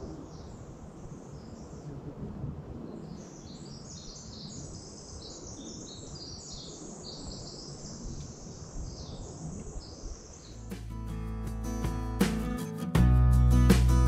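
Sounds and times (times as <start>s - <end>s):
small birds chirping: 0.0s - 2.1s, 2.8s - 12.8s.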